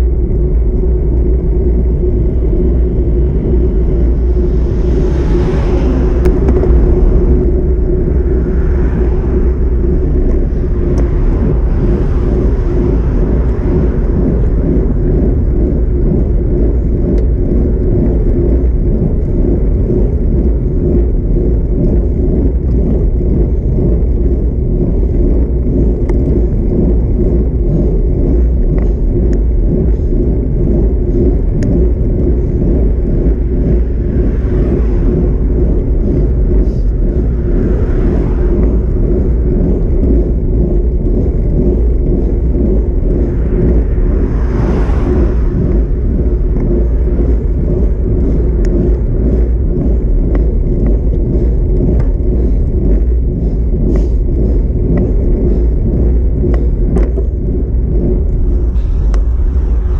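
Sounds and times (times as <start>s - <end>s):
cars passing: 0.0s - 28.2s, 28.8s - 53.3s, 54.6s - 59.9s
bicycle road noise: 0.0s - 59.9s
wind rumble on microphone: 0.0s - 59.9s.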